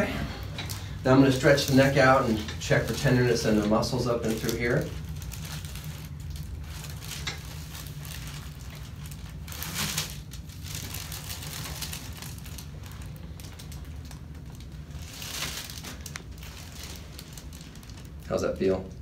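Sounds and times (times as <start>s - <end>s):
rustling of hands and clothing: 0.0s - 19.0s
steady low hum: 0.0s - 19.0s.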